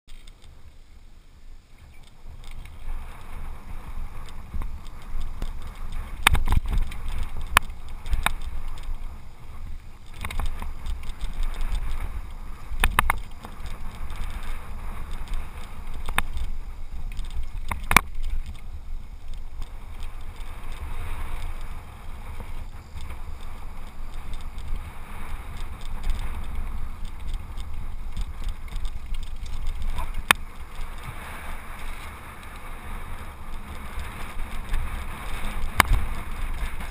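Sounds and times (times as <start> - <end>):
wind and tyre rumble: 0.1 - 36.9.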